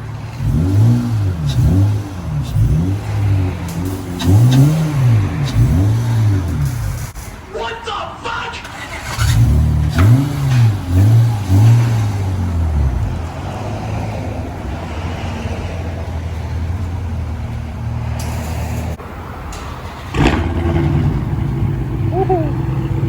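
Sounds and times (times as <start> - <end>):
car engine revving and idling: 0.0 - 7.3, 8.6 - 23.0.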